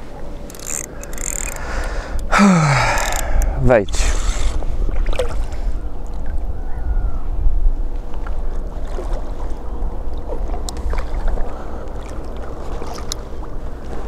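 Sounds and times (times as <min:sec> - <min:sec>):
wind rumble on microphone: 0:01.0 - 0:14.0.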